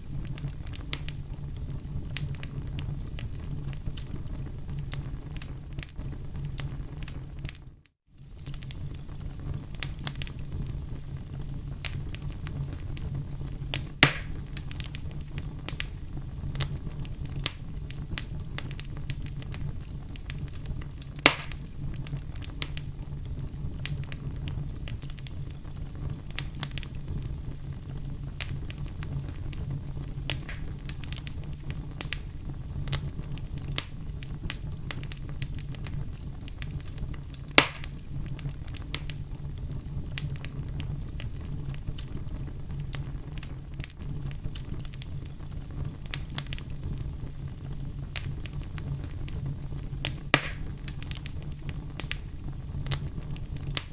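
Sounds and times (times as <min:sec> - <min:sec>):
loud fire pops: 0:00.0 - 0:53.9
wood fire crackling: 0:00.0 - 0:53.9.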